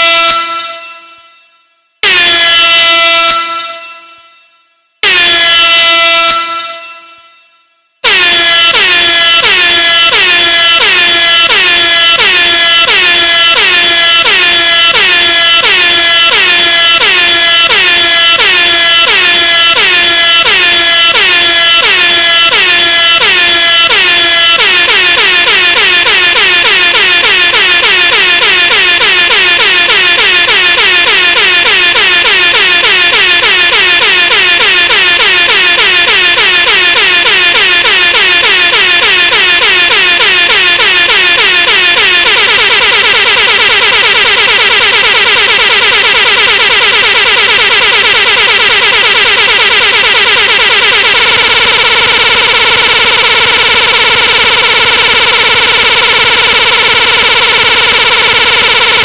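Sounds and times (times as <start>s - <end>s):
air horn blasts: 0.0s - 59.0s.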